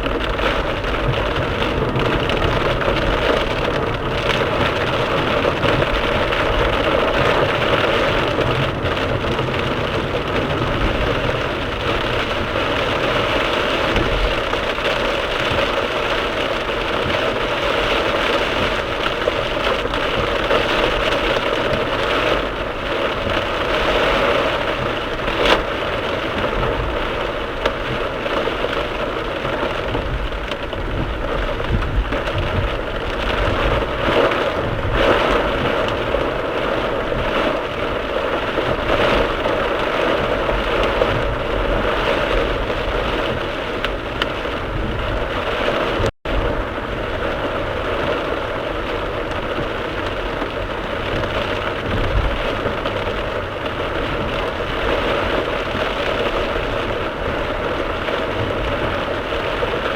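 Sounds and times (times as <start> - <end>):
heavy rain drumming on car: 0.0 - 59.9.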